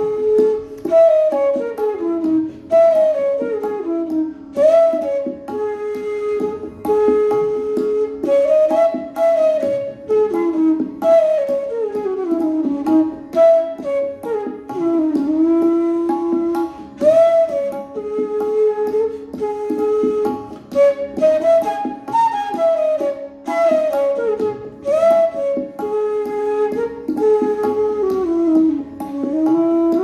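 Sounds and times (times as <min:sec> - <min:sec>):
bamboo flute melody: 0:00.0 - 0:30.0.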